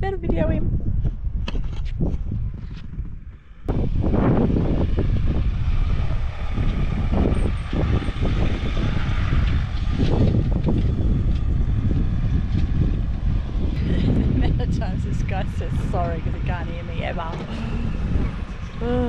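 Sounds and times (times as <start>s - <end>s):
vehicle driving past on sand: 3.4s - 19.0s.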